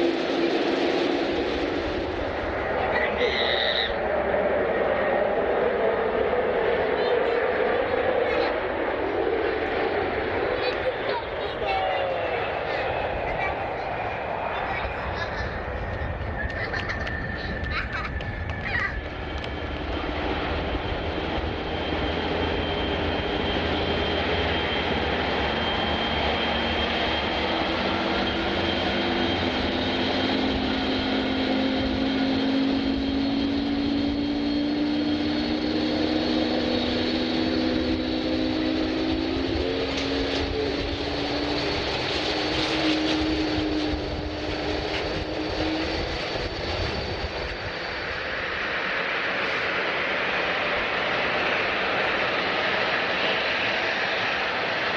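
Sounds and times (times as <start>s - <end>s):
high whine: 0.0s - 54.9s
jet engine rushing noise: 0.0s - 54.9s.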